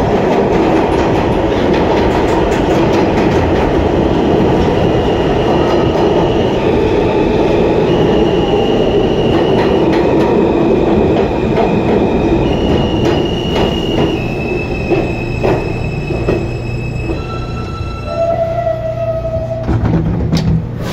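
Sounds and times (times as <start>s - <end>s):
subway car rumble: 0.0s - 20.9s.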